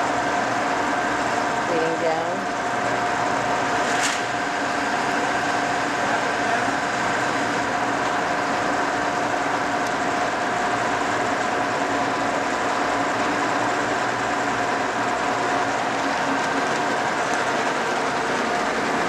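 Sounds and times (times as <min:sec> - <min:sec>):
milling machine whine: 0:00.0 - 0:19.0.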